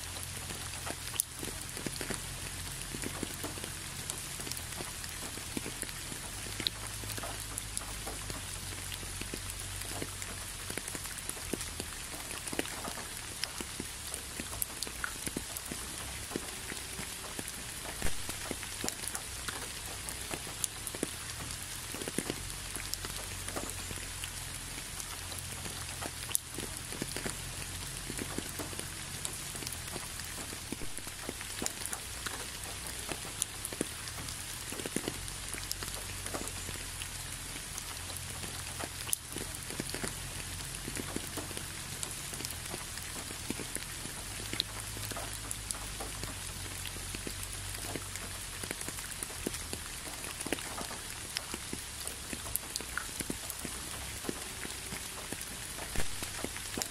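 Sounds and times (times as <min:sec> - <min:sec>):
rain hissing: 0:00.0 - 0:56.9
raindrops ticking: 0:00.0 - 0:56.9.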